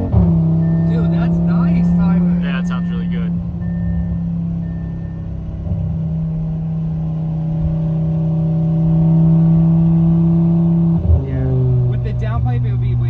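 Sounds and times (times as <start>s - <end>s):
car engine pulling: 0.0s - 13.0s.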